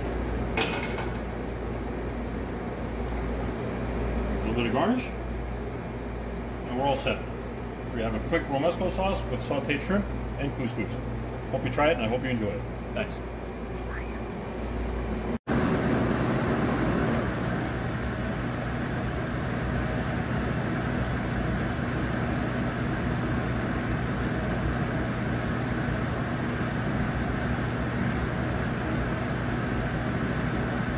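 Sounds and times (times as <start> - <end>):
machine room low hum: 0.0 - 30.9.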